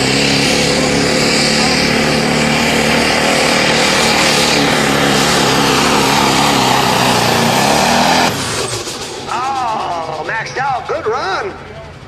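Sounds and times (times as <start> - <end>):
pickup truck engine under load: 0.0 - 12.0.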